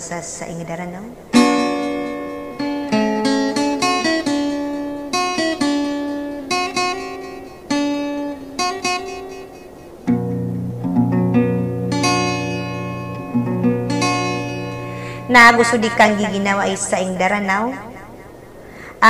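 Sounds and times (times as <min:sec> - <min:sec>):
plucked acoustic guitar melody: 0:01.3 - 0:18.6.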